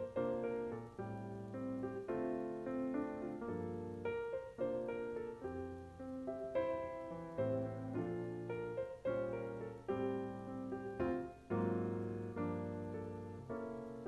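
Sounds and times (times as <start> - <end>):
slow solo piano piece: 0.0 - 14.0.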